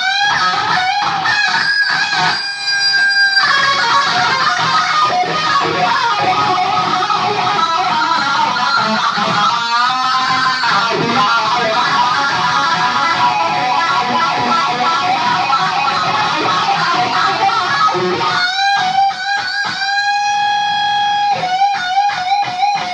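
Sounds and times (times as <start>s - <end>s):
electric guitar with wah pedal: 0.0s - 22.9s.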